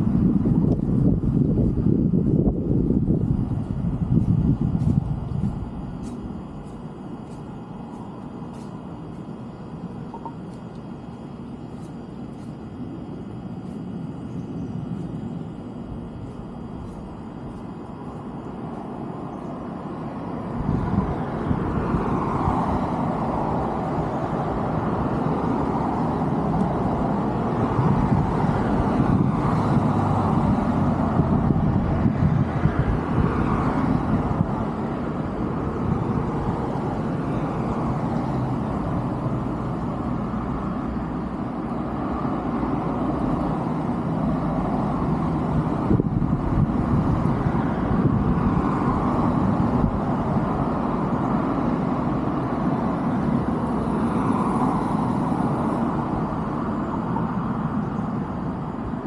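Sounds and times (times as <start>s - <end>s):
passing road traffic: 0.0s - 59.0s.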